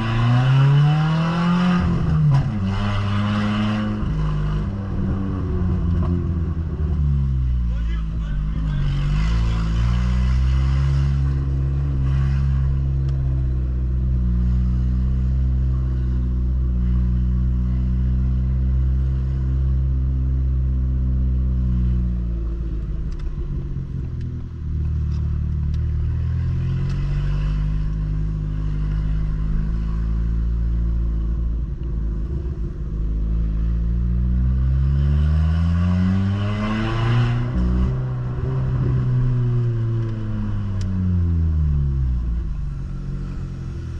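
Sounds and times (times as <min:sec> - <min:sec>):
car engine and exhaust rumbling: 0:00.0 - 0:43.9.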